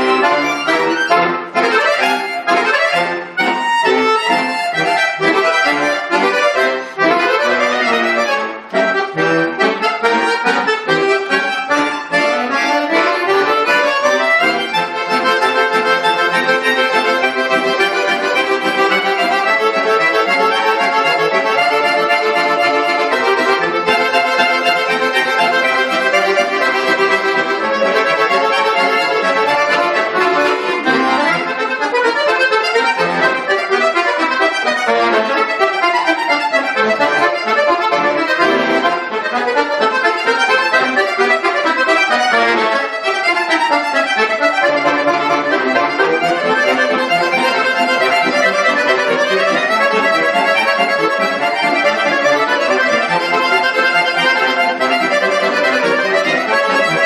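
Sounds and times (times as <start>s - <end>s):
button accordion playing: 0.0s - 57.0s.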